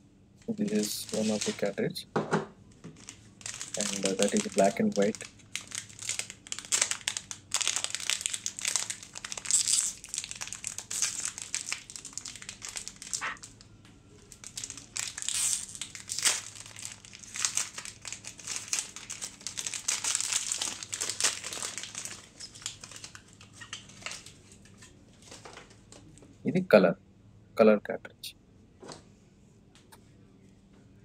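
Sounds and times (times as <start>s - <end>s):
plastic packaging crinkling: 0.4s - 1.9s, 2.7s - 26.2s.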